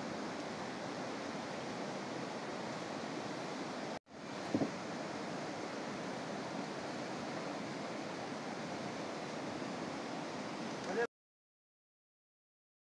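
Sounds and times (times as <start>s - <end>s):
stream rushing: 0.0s - 11.1s.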